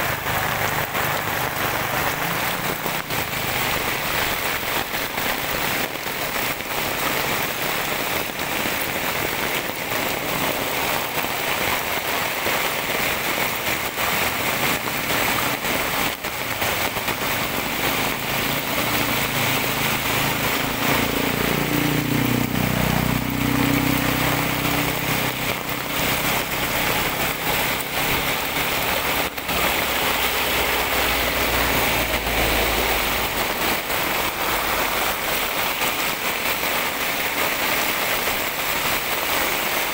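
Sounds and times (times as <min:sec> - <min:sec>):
heavy rain on asphalt road: 0:00.0 - 0:39.9
runoff water flowing: 0:00.0 - 0:39.9.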